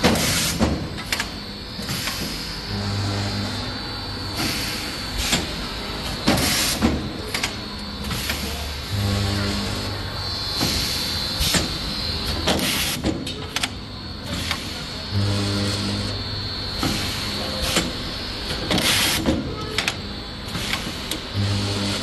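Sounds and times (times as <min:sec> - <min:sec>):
welding machine low electrical hum: 0:00.0 - 0:22.0.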